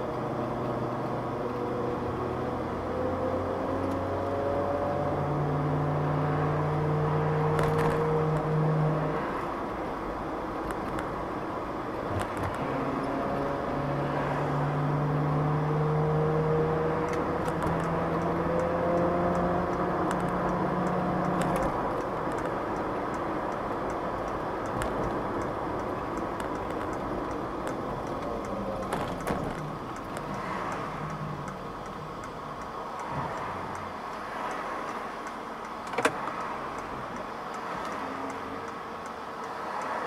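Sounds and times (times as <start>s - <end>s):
road and engine noise: 0.0s - 40.0s.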